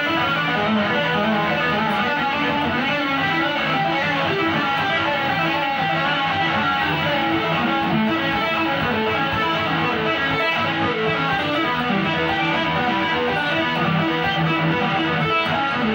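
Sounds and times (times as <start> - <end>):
electric guitar quick single notes: 0.0 - 15.9.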